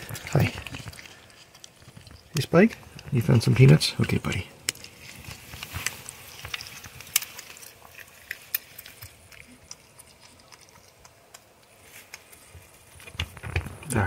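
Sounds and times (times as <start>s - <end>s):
porcupine chewing peanuts: 0.0s - 14.0s.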